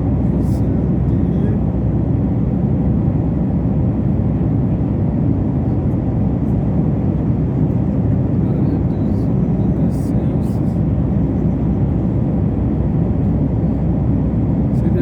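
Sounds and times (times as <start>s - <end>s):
airplane engine rumble: 0.0s - 15.0s.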